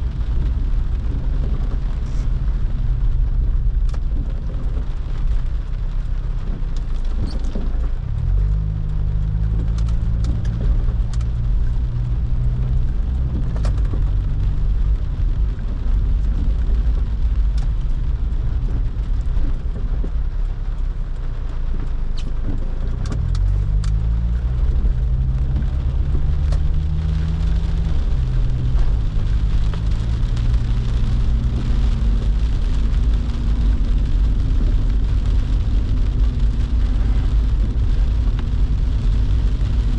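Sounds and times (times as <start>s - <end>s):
car engine hum: 0.0s - 39.9s
road noise: 0.0s - 39.9s.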